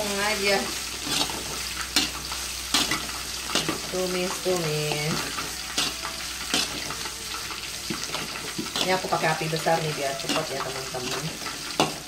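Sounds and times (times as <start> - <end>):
food sizzling in hot oil: 0.0 - 12.0
spatula scraping a wok: 0.0 - 12.0.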